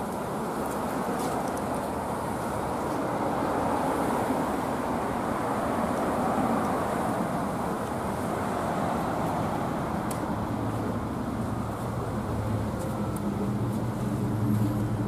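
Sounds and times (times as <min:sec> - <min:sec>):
cars driving past: 0:01.0 - 0:15.0.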